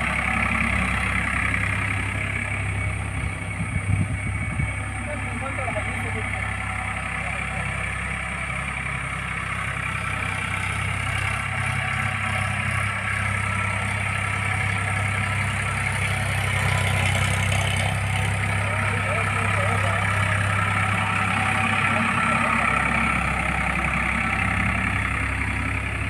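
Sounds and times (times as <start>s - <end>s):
tractor engine humming: 0.0s - 26.0s.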